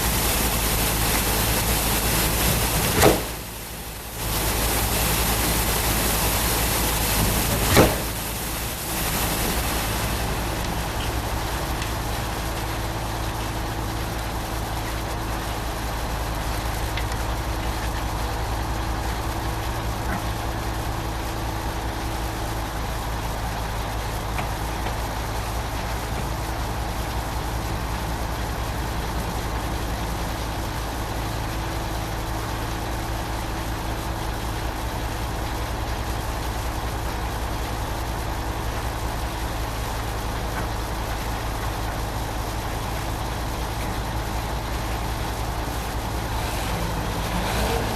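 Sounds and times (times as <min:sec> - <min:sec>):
truck engine droning: 0:00.0 - 0:47.9.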